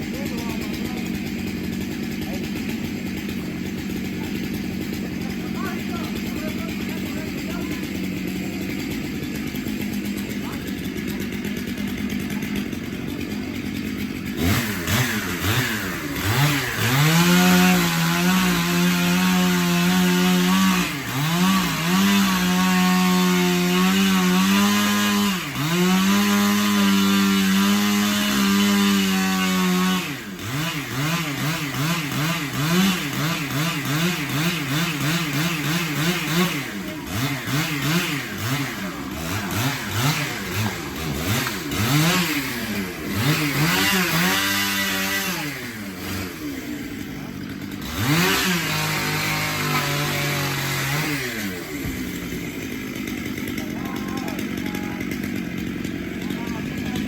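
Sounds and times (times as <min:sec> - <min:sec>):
chainsaw revving: 0:00.0 - 0:57.0.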